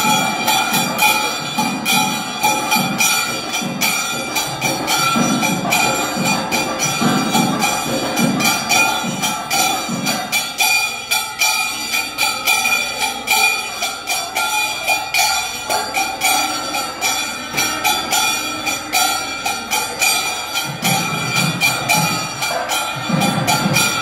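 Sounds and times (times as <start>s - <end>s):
jingling percussion: 0.0s - 24.0s
temple bells clanging: 0.0s - 24.0s.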